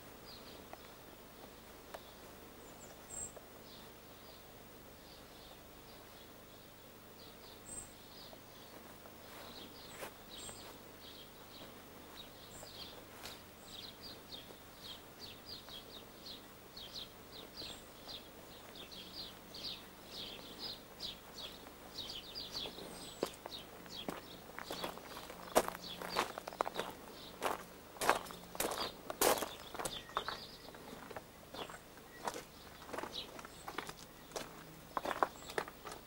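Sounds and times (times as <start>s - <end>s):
faint steady hum: 0.0s - 36.0s
small bird chirping: 2.0s - 36.0s.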